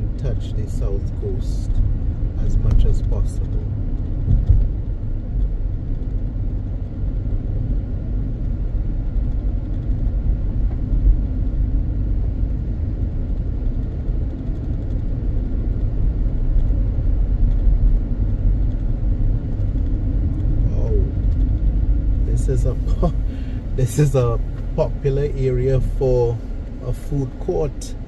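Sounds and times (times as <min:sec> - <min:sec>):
car driving rumble: 0:00.0 - 0:28.0
tyre and engine noise: 0:00.0 - 0:28.0.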